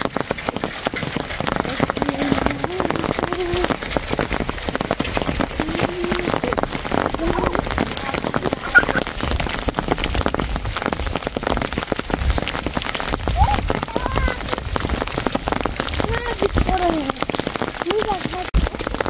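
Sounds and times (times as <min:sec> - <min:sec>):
hail and rain falling: 0:00.0 - 0:19.0.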